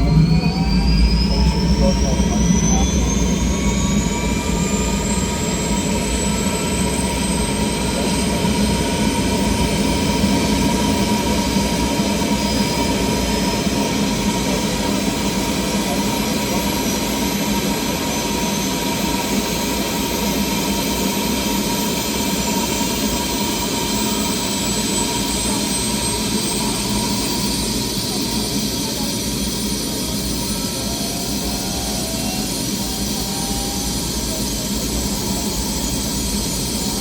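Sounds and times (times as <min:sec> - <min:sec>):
helicopter turbine engine spooling up: 0:00.0 - 0:37.0
thin high whine: 0:00.0 - 0:37.0.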